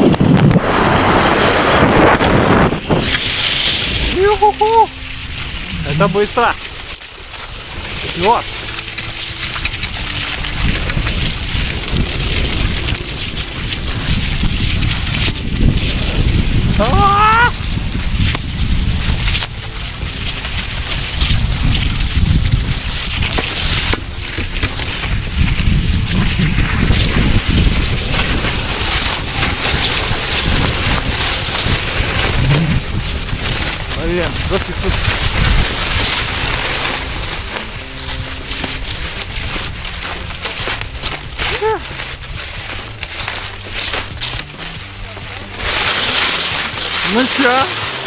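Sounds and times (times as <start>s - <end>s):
skis gliding on icy track: 0.0s - 48.0s
wind buffeting microphone: 0.0s - 48.0s.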